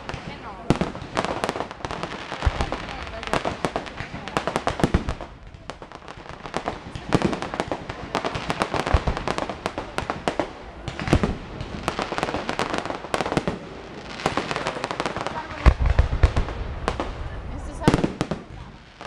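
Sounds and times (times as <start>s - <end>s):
fireworks crackling and popping: 0.0s - 19.0s
fireworks heavy bangs: 0.0s - 19.0s.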